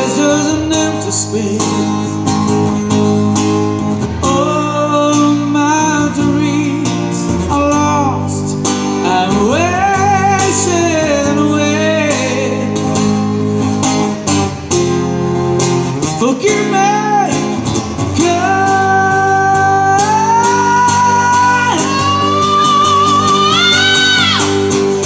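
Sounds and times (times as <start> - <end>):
person singing a slow ballad: 0.0 - 3.0, 4.0 - 13.5, 16.0 - 25.0
strummed acoustic guitar: 0.0 - 25.0.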